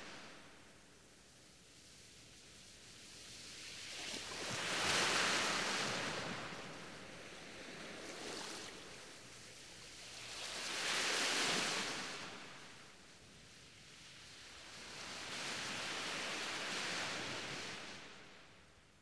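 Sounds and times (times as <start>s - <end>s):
waves washing on a shore: 0.0s - 18.6s.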